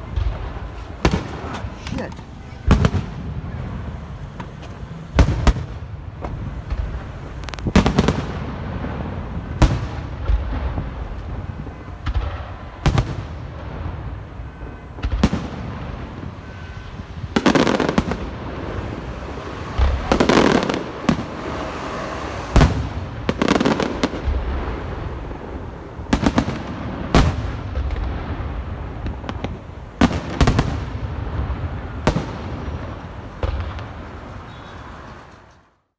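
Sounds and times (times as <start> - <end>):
firework shells booming: 0.0 - 35.6
fireworks crackling: 0.0 - 35.9.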